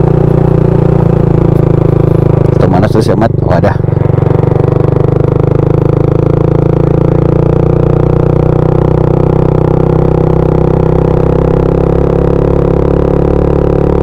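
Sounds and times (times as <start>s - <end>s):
scooter engine droning uphill: 0.0s - 14.0s.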